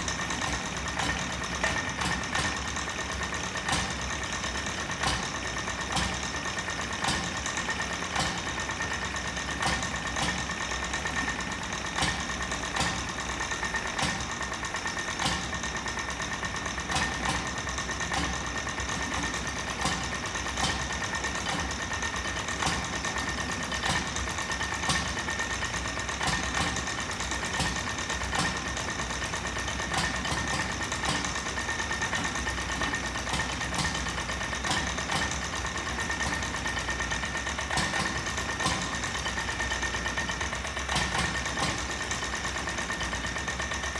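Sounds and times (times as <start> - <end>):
stationary engine running: 0.0 - 43.9.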